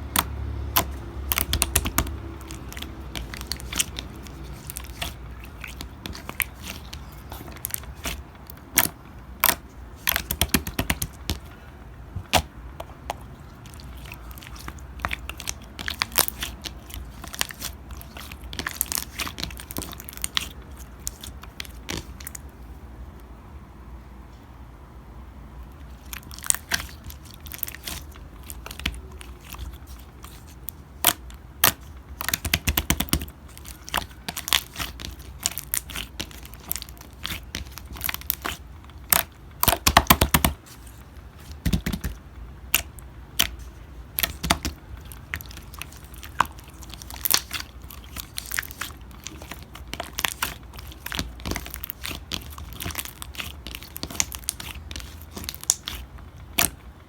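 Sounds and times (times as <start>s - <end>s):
slime clicking and popping: 0.0s - 11.6s, 12.2s - 22.5s, 25.9s - 56.9s.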